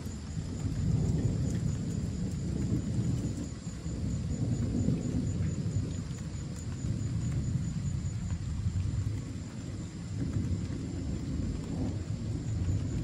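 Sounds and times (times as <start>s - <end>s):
light rain pattering: 0.0s - 13.0s
thunder rumbling: 0.0s - 13.0s.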